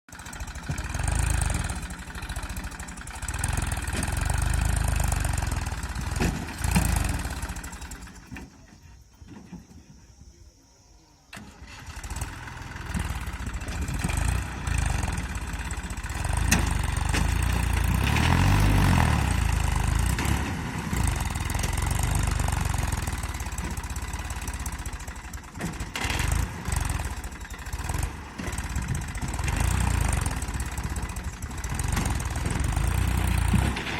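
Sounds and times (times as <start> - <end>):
tractor diesel engine running: 0.1 - 10.5, 11.3 - 33.9.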